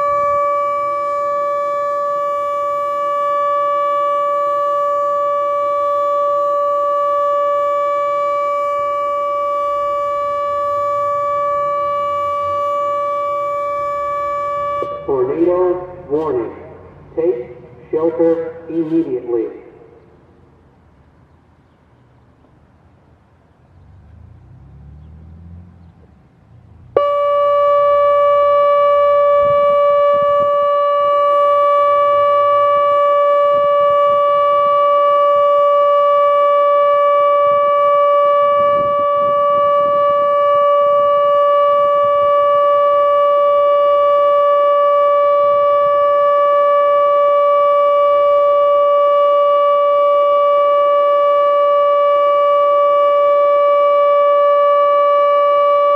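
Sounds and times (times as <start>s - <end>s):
warning siren steady tone: 0.0s - 20.3s, 26.6s - 55.9s.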